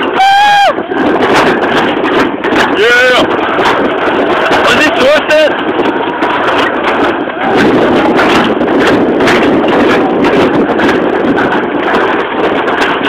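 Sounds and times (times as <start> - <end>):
sled rumbling down concrete chute: 0.0 - 13.0
wind buffeting microphone: 0.0 - 13.0.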